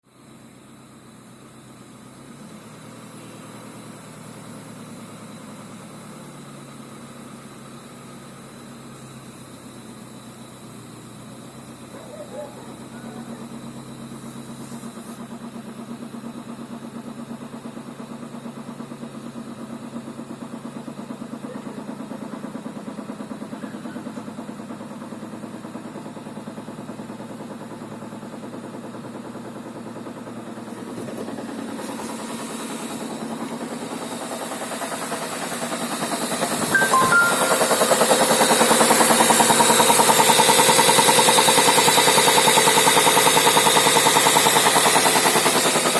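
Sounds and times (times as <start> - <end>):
engine knocking rapidly: 0.1 - 36.8, 37.5 - 45.9.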